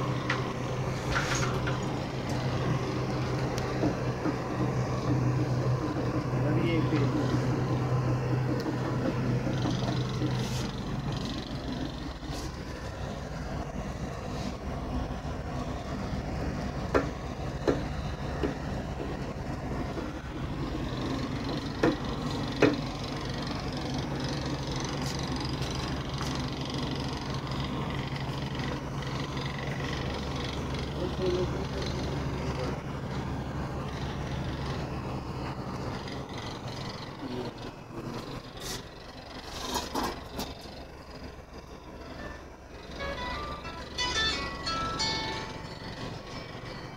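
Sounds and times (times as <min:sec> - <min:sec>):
air conditioner humming: 0:00.0 - 0:46.9.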